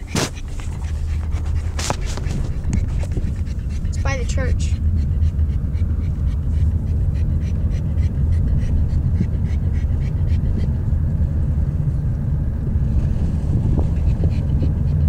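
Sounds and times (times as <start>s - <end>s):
car cabin engine and road noise: 0.0s - 15.0s.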